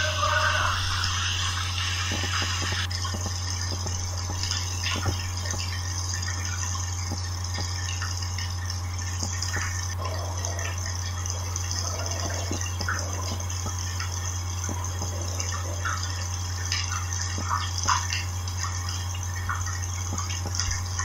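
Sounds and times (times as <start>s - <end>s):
constant hiss: 0.0s - 21.0s
small crackles and clicks: 2.1s - 10.8s, 11.4s - 21.0s.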